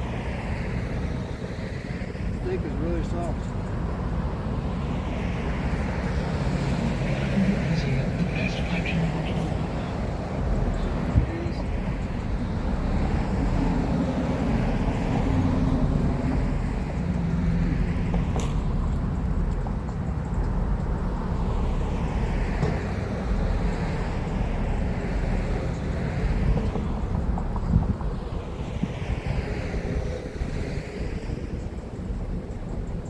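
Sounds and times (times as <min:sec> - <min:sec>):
road traffic rumble: 0:00.0 - 0:33.0
vehicles passing: 0:00.0 - 0:33.0.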